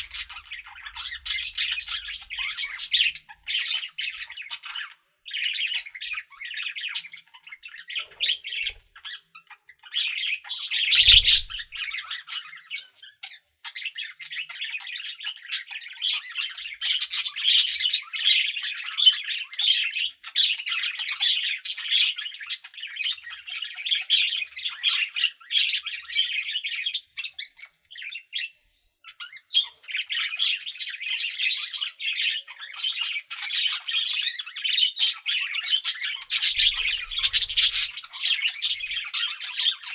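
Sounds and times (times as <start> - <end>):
budgerigars chattering: 0.0 - 28.5, 29.1 - 39.9.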